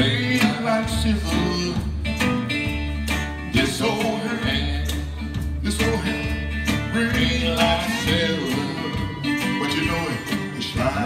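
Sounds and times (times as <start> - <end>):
acoustic blues guitar: 0.0 - 11.0.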